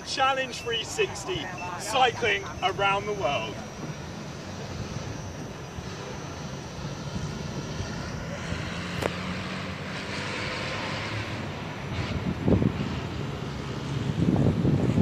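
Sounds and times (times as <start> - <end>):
traffic engine drone: 0.0 - 15.0.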